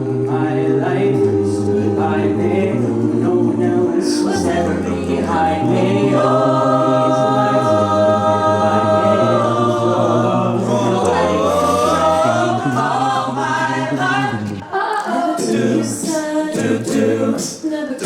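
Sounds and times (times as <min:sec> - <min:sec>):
a cappella group singing: 0:00.0 - 0:18.0.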